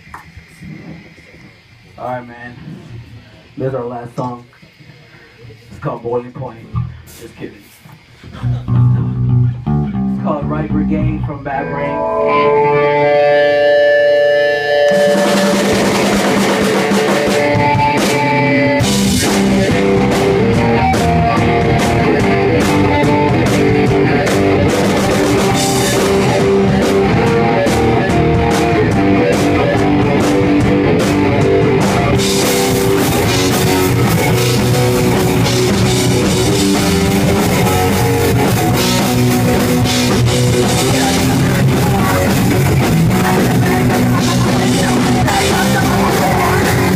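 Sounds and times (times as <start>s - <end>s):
drums: 0.0s - 46.9s
guitar sustained notes: 8.4s - 46.9s
live rock band playing: 8.5s - 46.9s.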